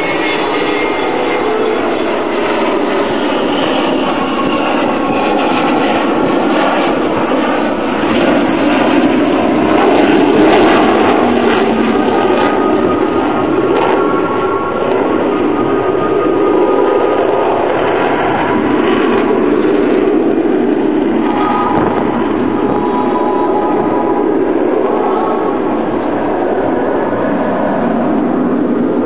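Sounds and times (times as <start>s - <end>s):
jet bomber roaring past: 0.0s - 29.0s.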